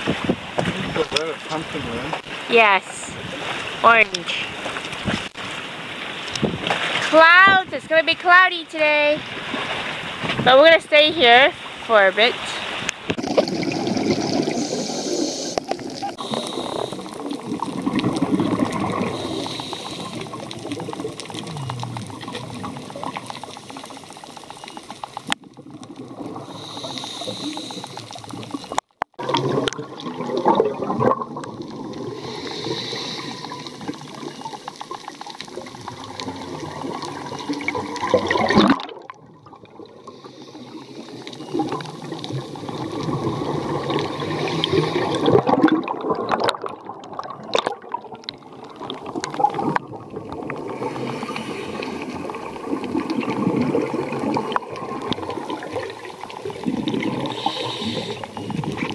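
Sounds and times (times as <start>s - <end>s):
water gurgling and sloshing: 0.0s - 58.9s.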